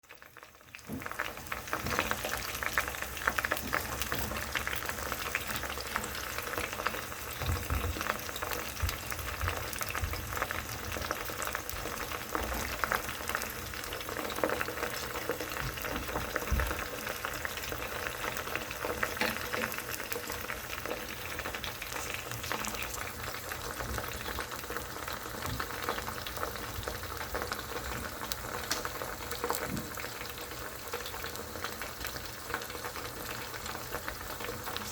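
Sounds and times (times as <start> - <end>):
food sizzling in oil: 0.1 - 34.9.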